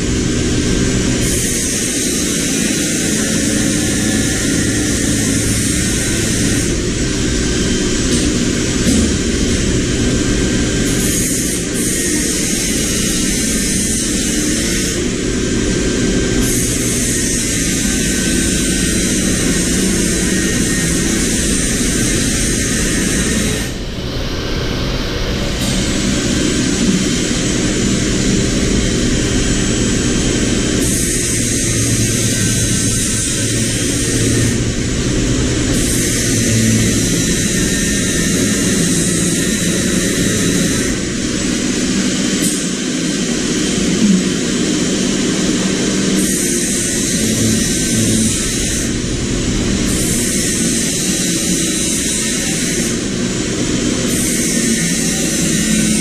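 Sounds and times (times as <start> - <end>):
machine whirring: 0.0 - 56.0.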